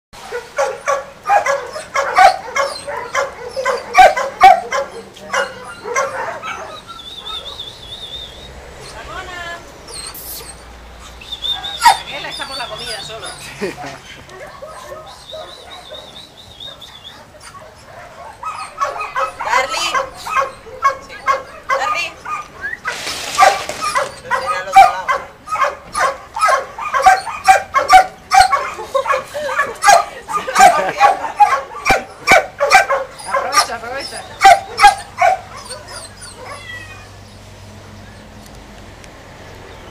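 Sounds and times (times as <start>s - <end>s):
dog yapping: 0.2s - 7.7s, 9.9s - 12.7s, 14.3s - 37.2s.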